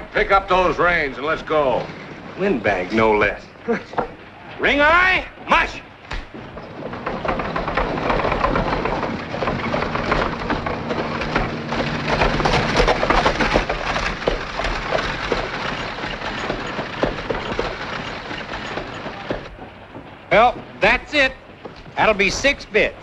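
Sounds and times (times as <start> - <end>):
horse hooves clopping: 0.0 - 23.0
wooden wheels rattling: 0.0 - 23.0.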